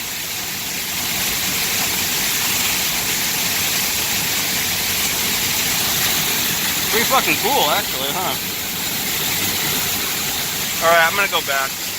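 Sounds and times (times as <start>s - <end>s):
waterfall roaring: 0.0s - 11.9s.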